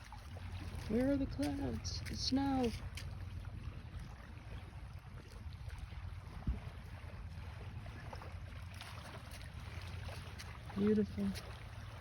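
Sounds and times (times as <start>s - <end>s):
water lapping: 0.0s - 12.0s
wind buffeting microphone: 0.0s - 12.0s.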